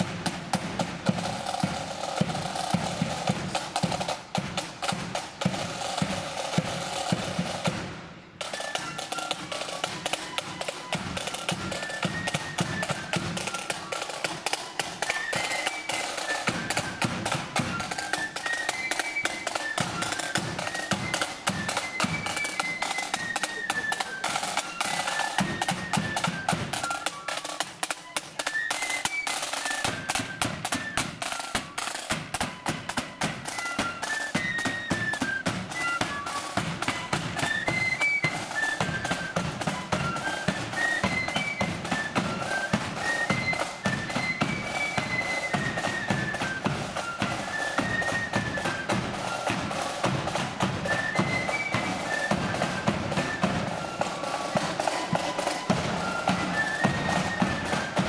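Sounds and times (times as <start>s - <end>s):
flutes playing high melody: 0.0s - 58.0s
rapid snare drumming: 0.0s - 58.0s.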